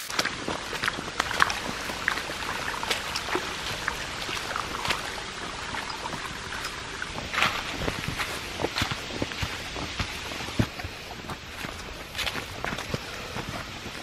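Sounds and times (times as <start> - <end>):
water splashing over rock: 0.0 - 14.0.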